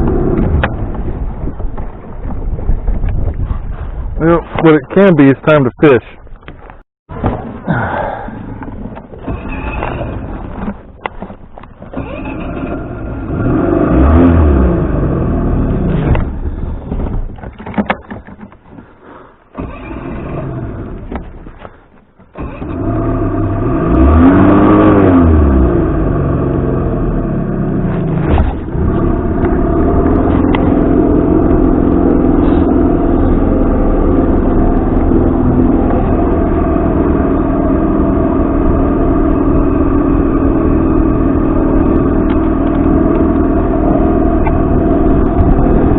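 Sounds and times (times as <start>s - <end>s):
outboard motor revving: 0.0s - 1.8s, 7.2s - 16.9s, 19.5s - 45.9s.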